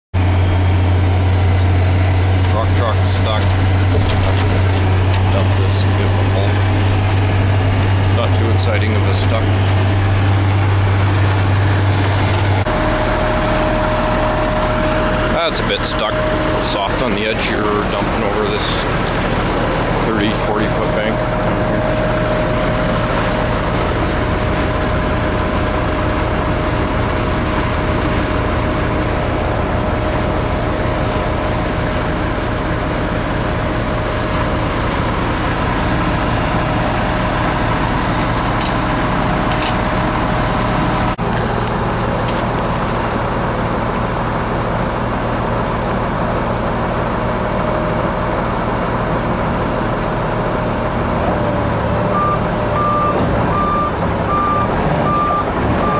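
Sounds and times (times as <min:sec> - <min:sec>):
heavy diesel engine running: 0:00.1 - 0:55.9
thin steady whine: 0:00.2 - 0:50.8.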